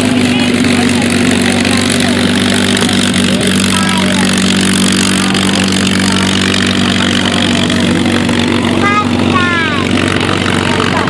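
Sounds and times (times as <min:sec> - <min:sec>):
engine running steadily: 0:00.0 - 0:11.0
faint voices: 0:00.0 - 0:11.0.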